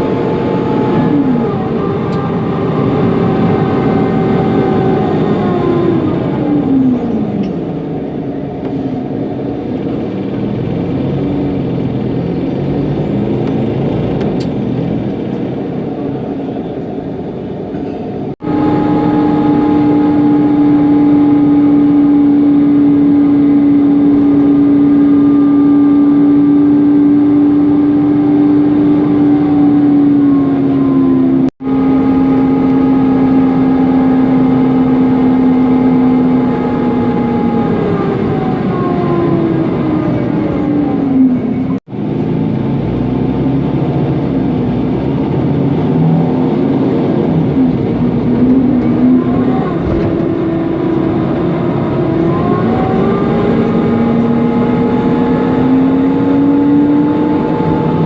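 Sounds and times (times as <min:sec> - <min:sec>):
bus engine and road noise: 0:00.0 - 0:58.0
cooling fan whine: 0:00.0 - 0:58.0.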